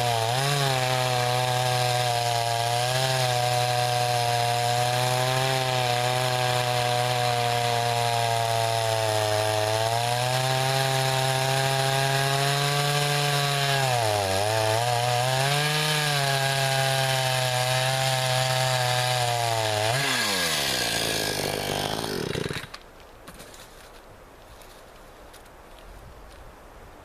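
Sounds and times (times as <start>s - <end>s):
chainsaw cutting wood: 0.0s - 23.6s.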